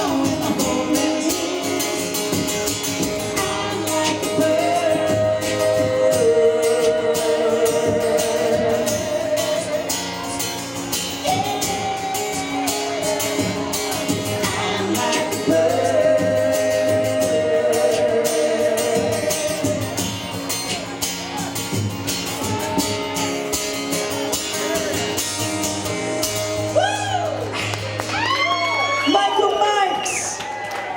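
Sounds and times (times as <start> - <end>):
guitar accompaniment: 0.0 - 30.9.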